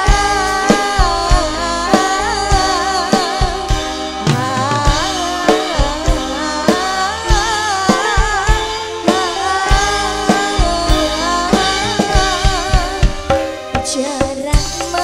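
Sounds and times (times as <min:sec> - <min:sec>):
bass: 0:00.0 - 0:15.0
electric keyboards: 0:00.0 - 0:15.0
steady drum beat: 0:00.0 - 0:15.0
woman singing into microphone: 0:00.0 - 0:15.0.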